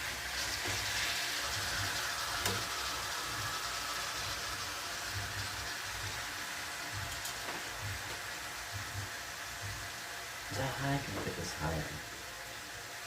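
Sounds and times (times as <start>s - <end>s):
chicken frying in oil: 0.0s - 13.0s.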